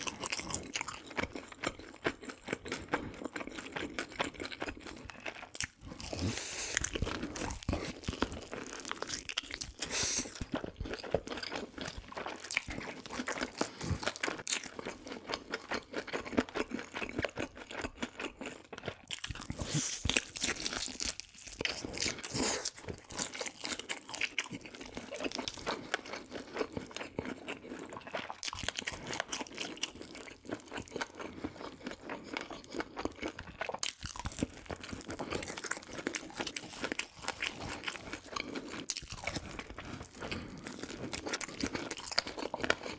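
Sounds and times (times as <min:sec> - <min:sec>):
chewing crispy fried food: 0:00.0 - 0:42.9.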